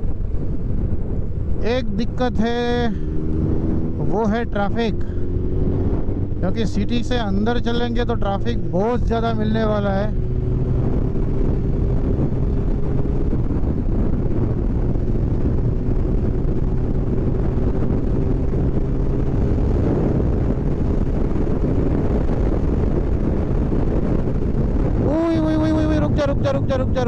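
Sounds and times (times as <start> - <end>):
motorcycle engine cruising: 0.0 - 27.0
wind rush on microphone: 0.0 - 27.0.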